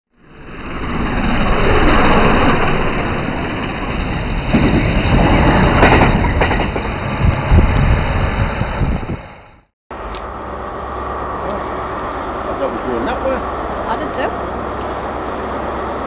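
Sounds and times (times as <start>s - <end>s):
train rumbling past: 0.2s - 16.0s.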